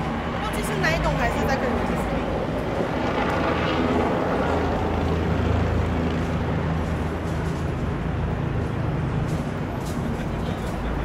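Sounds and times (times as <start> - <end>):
city traffic rumble: 0.0 - 11.0
vehicle engine hum: 0.0 - 11.0.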